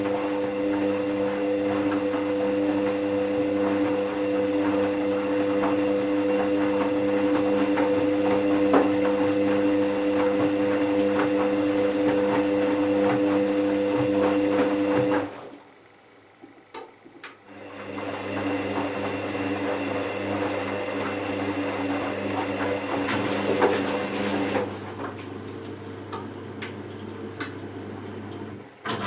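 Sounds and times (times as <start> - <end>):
washing machine motor hum: 0.0 - 29.0.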